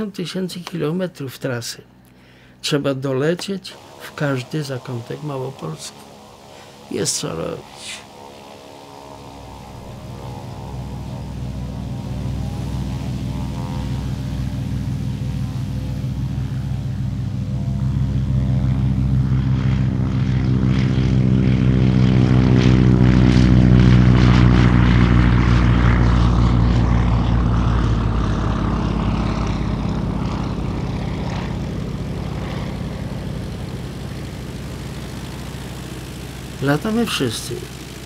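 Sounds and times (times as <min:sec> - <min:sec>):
propeller aircraft taking off: 0:01.9 - 0:38.0.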